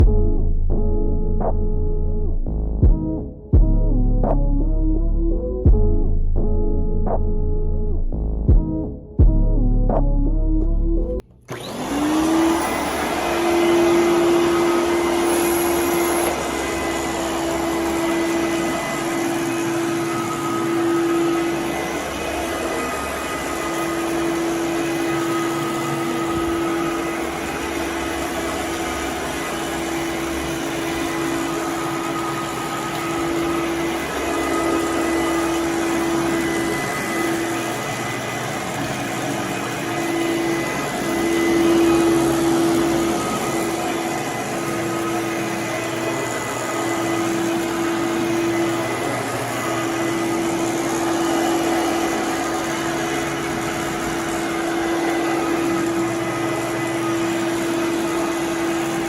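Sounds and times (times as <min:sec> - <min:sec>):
vacuum cleaner running: 0:11.2 - 0:59.0.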